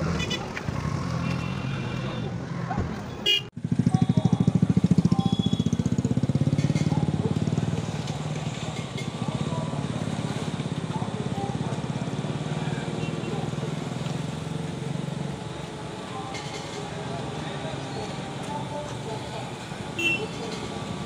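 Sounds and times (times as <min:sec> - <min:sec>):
motorcycle engine idling: 0:03.3 - 0:21.0.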